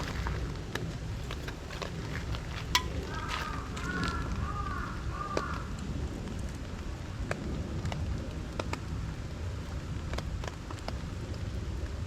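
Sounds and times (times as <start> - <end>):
rain falling: 0.0 - 12.0
sharp raindrop ticks: 0.0 - 12.0.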